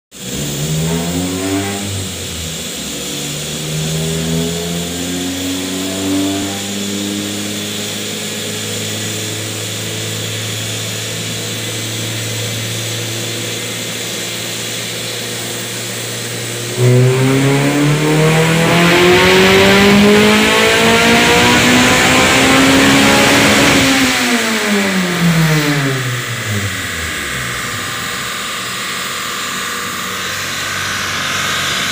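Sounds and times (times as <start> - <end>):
car engine revving on a dyno: 0.1 - 31.9.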